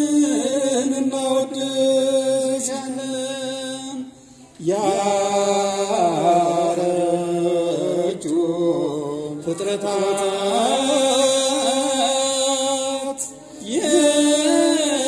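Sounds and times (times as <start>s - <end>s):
men singing a hymn into microphones: 0.0s - 15.0s.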